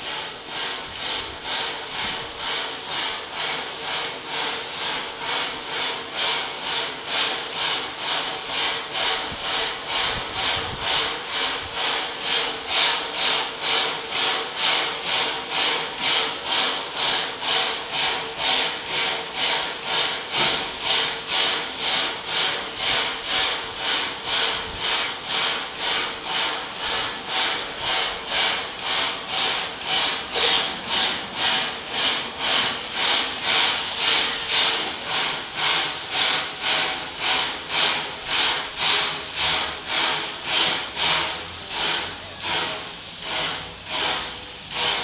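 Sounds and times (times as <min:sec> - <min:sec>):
steam hissing from drain cocks: 0:00.0 - 0:45.0
steam locomotive chuffing: 0:00.0 - 0:45.0.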